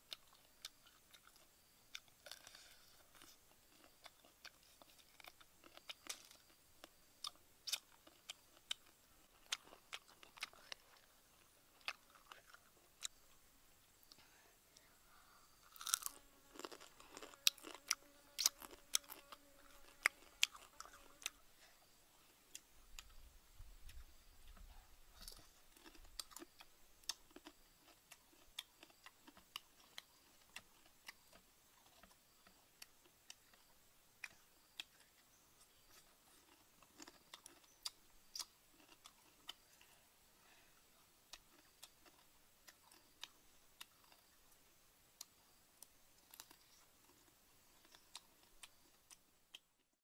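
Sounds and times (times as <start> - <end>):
chewing crunchy insects: 0.0 - 49.7.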